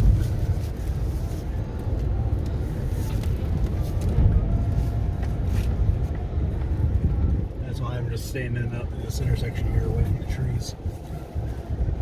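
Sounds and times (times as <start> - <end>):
wind buffeting a truck: 0.0 - 12.0.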